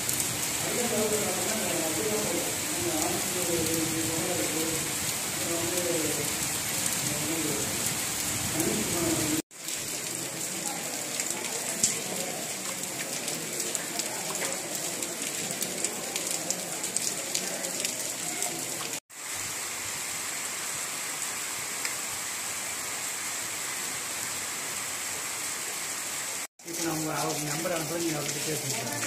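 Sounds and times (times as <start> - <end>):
heavy rain on puddles: 0.0 - 29.0.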